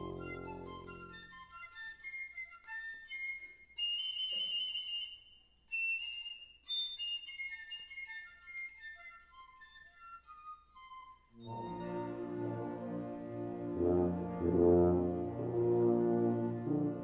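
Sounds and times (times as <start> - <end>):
piccolo solo: 0.0 - 5.1, 7.2 - 17.0.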